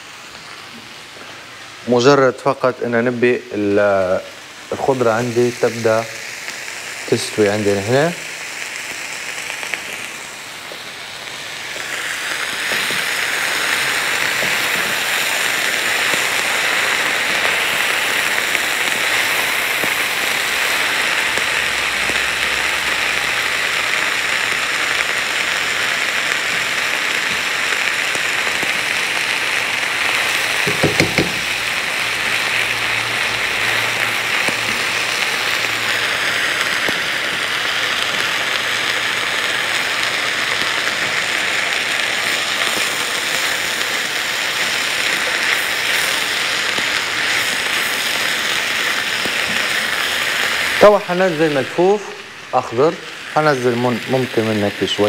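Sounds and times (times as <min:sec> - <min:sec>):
food sizzling in frying pan: 0:00.0 - 0:55.0.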